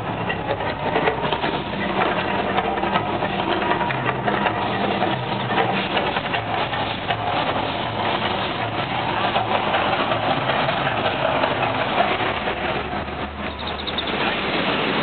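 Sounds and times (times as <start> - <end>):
firework fountain crackling hiss: 1.1 - 15.0.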